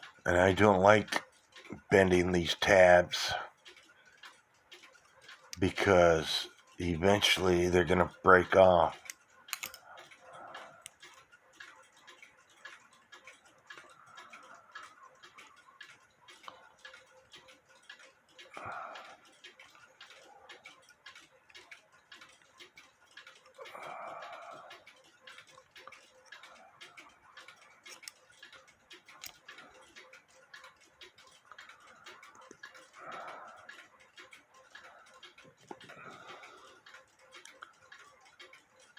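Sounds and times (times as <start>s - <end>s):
mechanical clock ticking: 0.0s - 38.9s.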